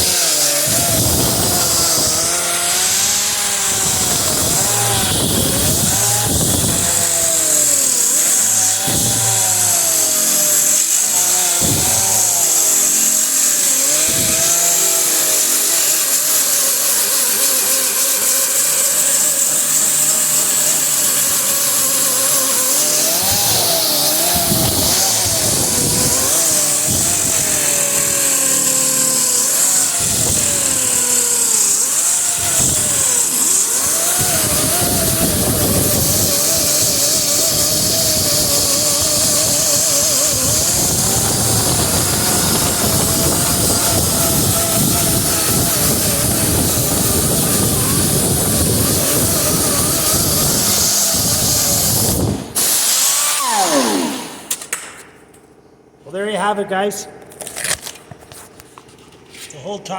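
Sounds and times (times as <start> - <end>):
power tool motor whine: 0.0 - 55.2.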